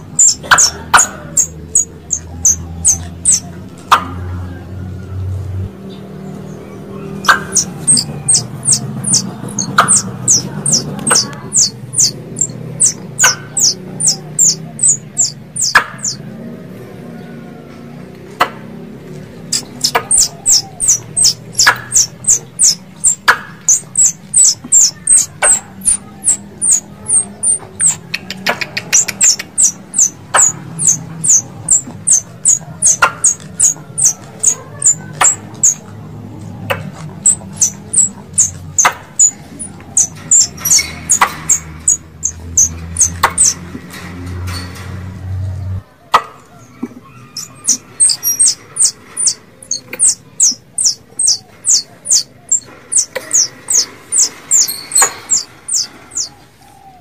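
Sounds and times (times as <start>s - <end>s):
squirrel chirping: 0.0s - 4.1s, 7.0s - 16.2s, 19.5s - 35.9s, 36.7s - 43.7s, 47.1s - 56.4s.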